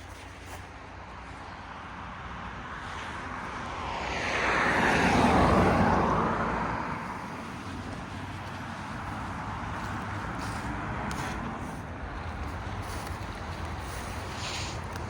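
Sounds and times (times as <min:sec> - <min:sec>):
vehicle passing by: 0:00.9 - 0:15.0.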